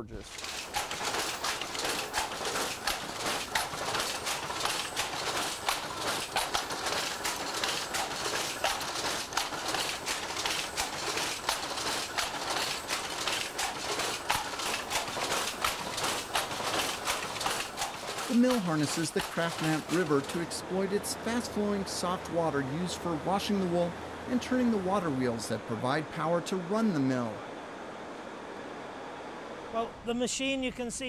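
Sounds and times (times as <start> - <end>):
power loom clattering: 0.0 - 27.1.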